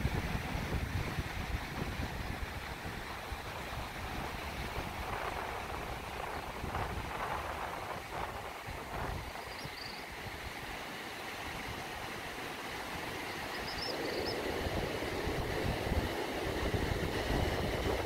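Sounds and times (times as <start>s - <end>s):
wind rumble on microphone: 0.0s - 10.5s, 13.6s - 18.0s
surf washing onto shore: 0.0s - 18.0s.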